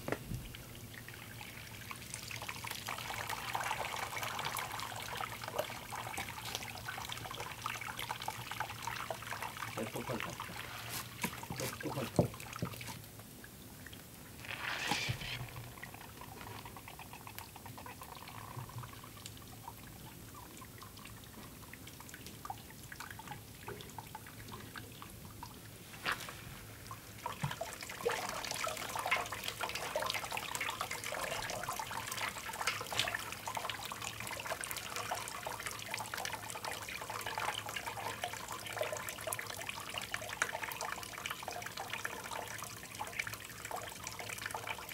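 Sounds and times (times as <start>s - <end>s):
liquid pouring and trickling: 0.1s - 44.9s
liquid splashing and dribbling: 0.2s - 44.9s.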